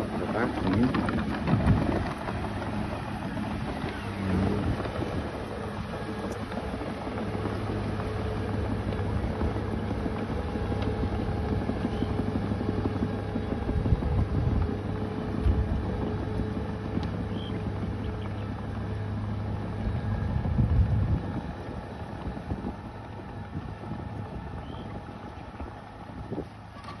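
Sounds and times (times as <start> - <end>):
bulldozer diesel engine: 0.0 - 27.0.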